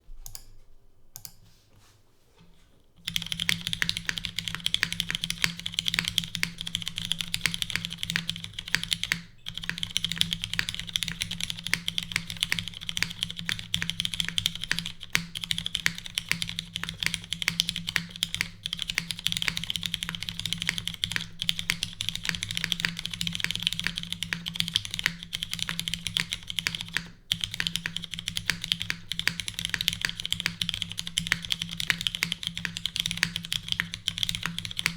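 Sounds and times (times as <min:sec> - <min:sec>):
mechanical keyboard typing: 0:00.2 - 0:00.6, 0:03.0 - 0:34.9.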